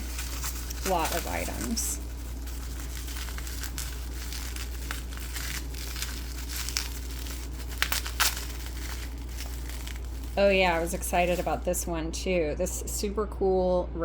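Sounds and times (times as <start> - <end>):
sharp crackles: 0.0 - 11.7
bubble wrap crinkling: 0.0 - 11.9
steady low hum: 0.0 - 14.0.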